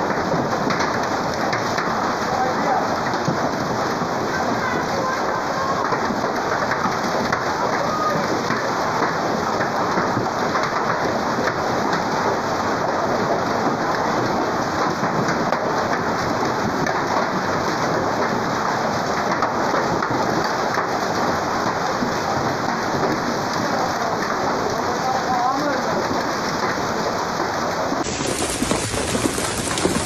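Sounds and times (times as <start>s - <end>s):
rain and hail pelting: 0.0s - 30.0s.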